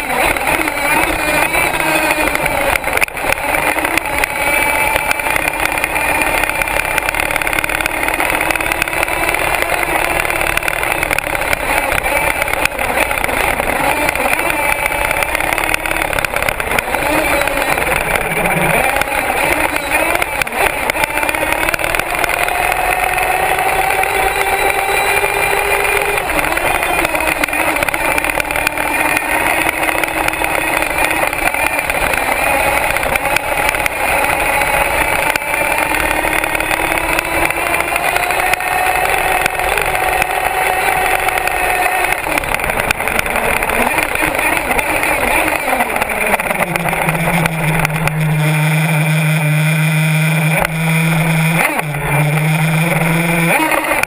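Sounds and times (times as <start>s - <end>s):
rc truck motor running: 0.0s - 54.0s.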